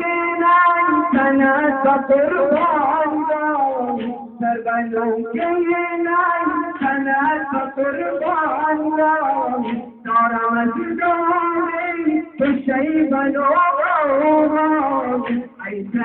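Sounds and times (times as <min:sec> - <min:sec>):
man chanting a lament: 0:00.0 - 0:16.0.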